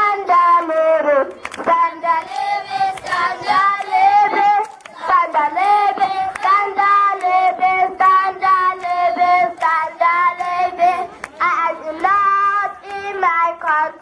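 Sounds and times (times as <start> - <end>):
child singing into microphone: 0.0 - 14.0.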